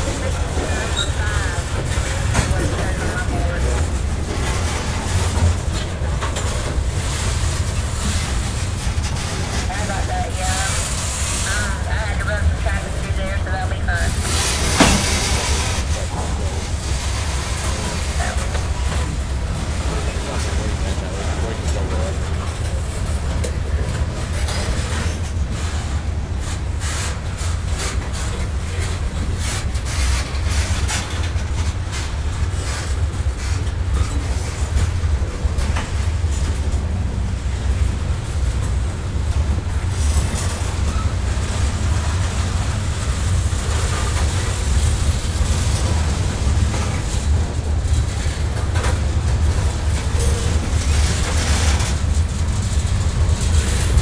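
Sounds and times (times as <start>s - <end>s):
freight train rumbling past: 0.0s - 54.0s
wheels clicking on rails: 0.0s - 54.0s.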